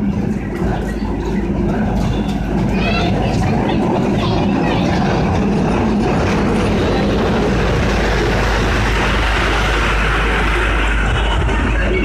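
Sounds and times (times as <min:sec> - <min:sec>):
toy train rumbling on track: 0:00.0 - 0:12.0.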